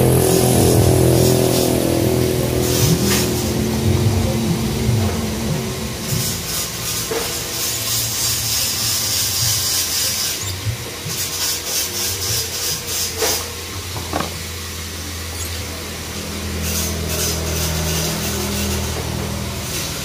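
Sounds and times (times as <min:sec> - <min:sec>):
saw rasping through wood: 0:00.0 - 0:03.9, 0:05.8 - 0:20.0.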